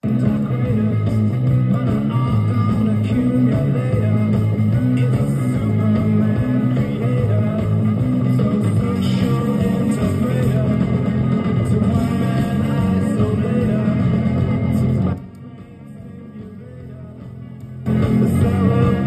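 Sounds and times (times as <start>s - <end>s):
rock music with guitar: 0.0s - 19.0s.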